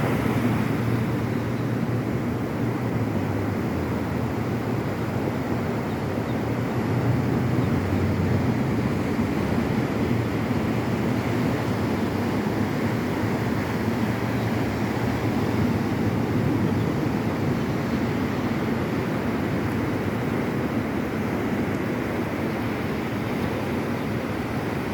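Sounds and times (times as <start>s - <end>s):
ocean surf rushing: 0.0s - 24.9s.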